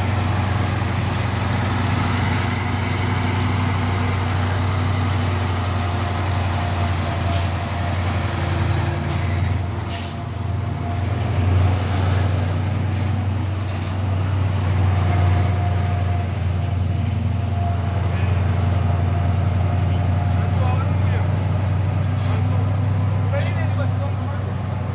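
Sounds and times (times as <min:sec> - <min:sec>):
diesel truck engine running: 0:00.0 - 0:24.9.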